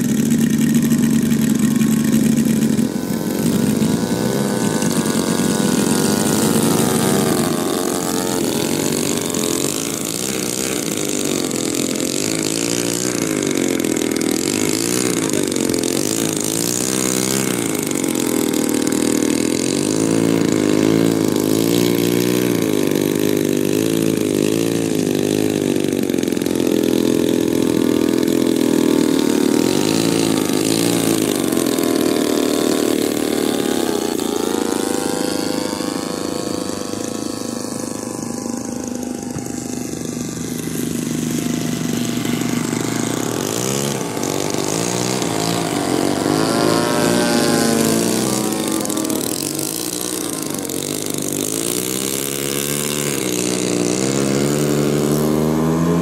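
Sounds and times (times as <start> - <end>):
model airplane engine: 0.0 - 56.0.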